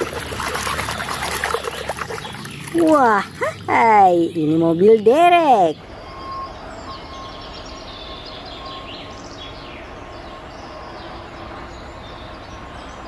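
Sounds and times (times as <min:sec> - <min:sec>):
low outdoor rumble: 0:00.0 - 0:11.0
birds chirping falling calls: 0:00.0 - 0:13.0.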